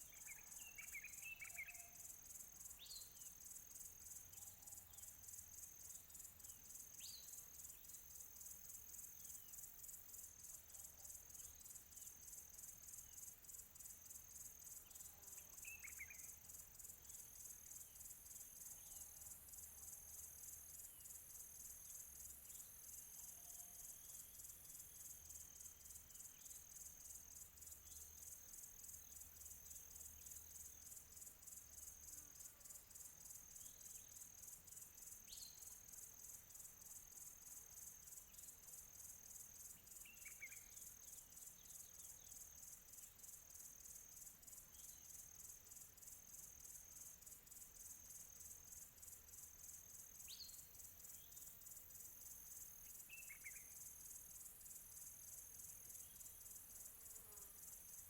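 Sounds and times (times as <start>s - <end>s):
insects pulsing chorus: 11.5s - 58.0s.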